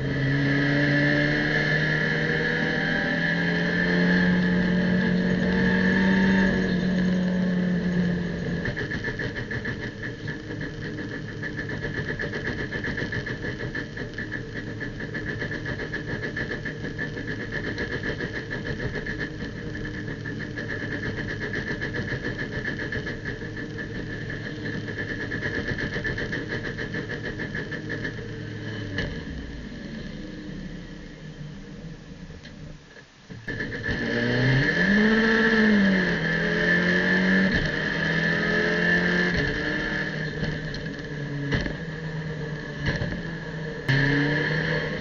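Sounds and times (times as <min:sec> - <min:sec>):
high whine: 0:00.0 - 0:45.0
race car engine drone: 0:00.0 - 0:45.0.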